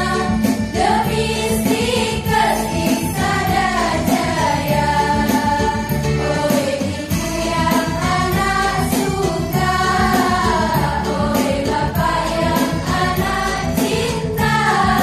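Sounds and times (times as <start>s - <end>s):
rhythmic accompaniment: 0.0s - 15.0s
women's choir singing: 0.0s - 15.0s.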